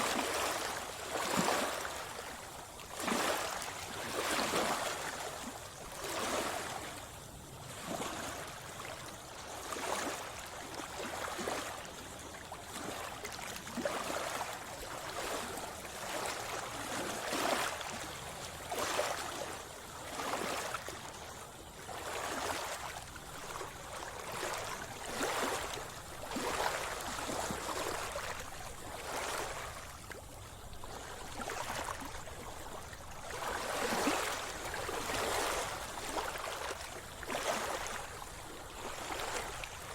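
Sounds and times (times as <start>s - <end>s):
water splashing around a swimmer: 0.0s - 39.9s.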